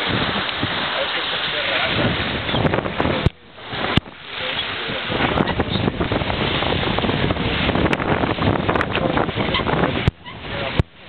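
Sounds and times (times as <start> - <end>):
sea wash: 0.0 - 11.0
wind buffeting microphone: 0.0 - 11.0.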